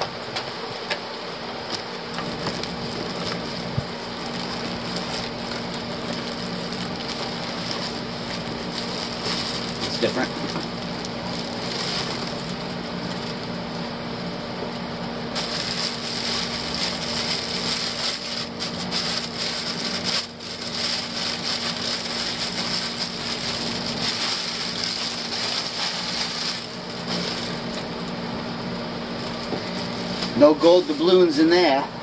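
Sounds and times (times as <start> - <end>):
steady low hum: 0.0 - 32.0
plastic bag crinkling: 2.1 - 13.5, 15.3 - 27.8, 29.1 - 31.5.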